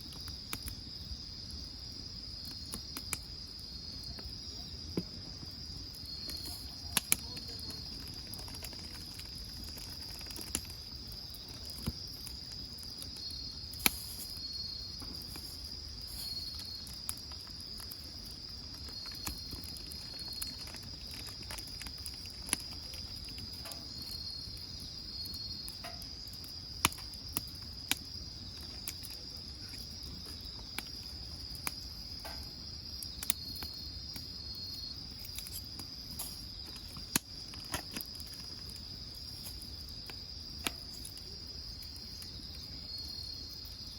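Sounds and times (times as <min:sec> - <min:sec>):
insect chirping: 0:00.0 - 0:43.9
insects trilling: 0:00.0 - 0:43.9
wood fire crackling: 0:00.0 - 0:43.9.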